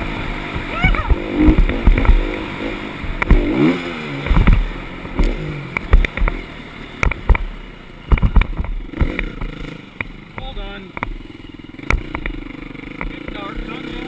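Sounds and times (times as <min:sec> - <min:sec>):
dirt bike engine revving: 0:00.0 - 0:14.0
sharp knocks and thumps: 0:00.5 - 0:03.6, 0:04.2 - 0:11.2, 0:11.8 - 0:13.7.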